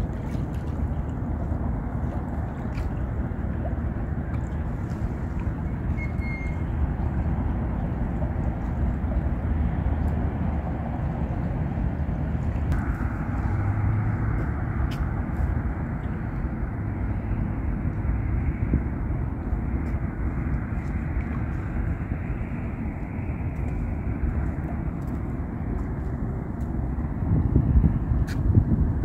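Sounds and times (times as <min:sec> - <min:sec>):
river water flowing: 0:00.0 - 0:11.4, 0:12.2 - 0:26.7.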